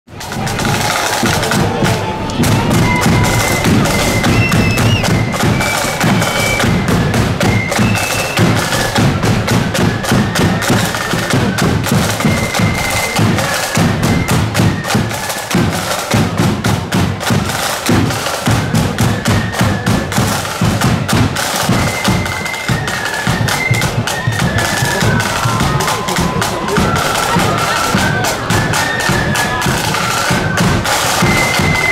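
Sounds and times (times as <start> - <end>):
heavy bass drum beats: 0.1 - 15.0, 15.6 - 31.9
fast snare drumming: 0.1 - 31.9
shrill flutes playing melody: 0.2 - 31.9.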